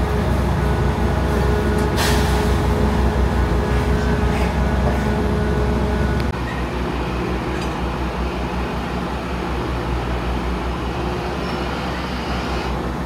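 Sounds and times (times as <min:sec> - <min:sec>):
ship machinery rumbling: 0:00.0 - 0:13.0.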